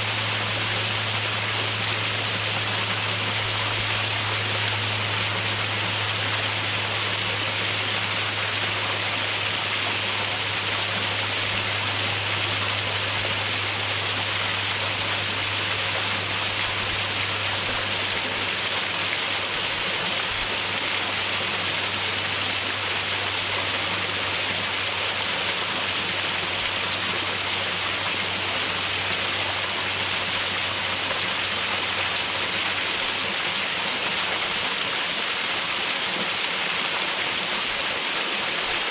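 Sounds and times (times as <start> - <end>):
small waterfall cascading: 0.0 - 38.9.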